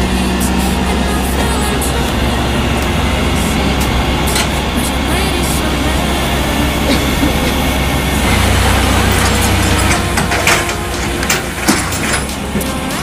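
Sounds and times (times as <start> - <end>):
tow truck engine running: 0.0 - 13.0.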